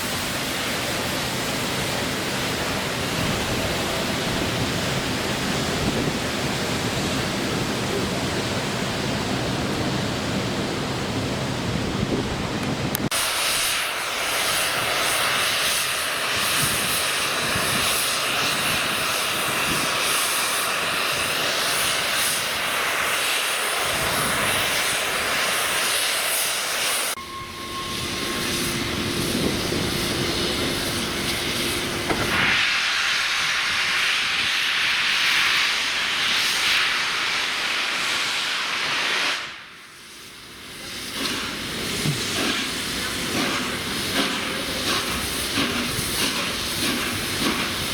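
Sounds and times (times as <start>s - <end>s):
steam locomotive hissing: 0.0s - 9.2s, 12.9s - 47.9s.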